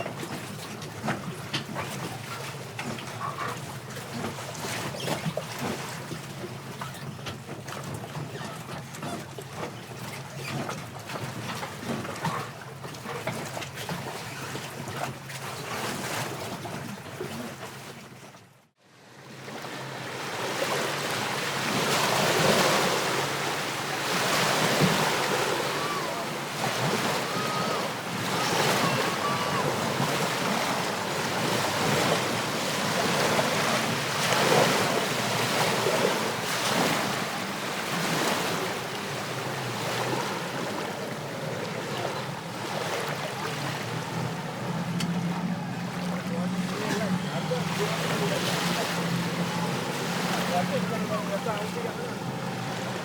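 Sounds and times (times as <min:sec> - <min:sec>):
sea waves: 0:00.0 - 0:53.0
wind: 0:00.0 - 0:53.0.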